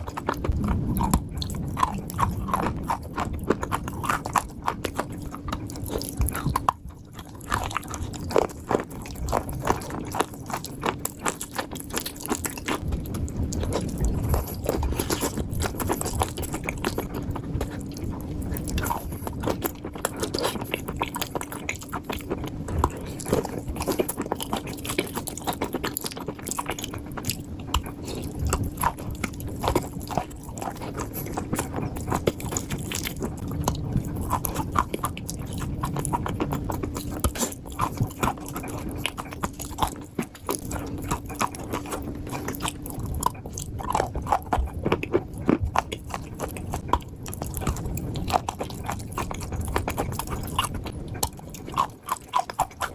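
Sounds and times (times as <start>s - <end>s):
crunching clay in mouth: 0.0s - 52.9s.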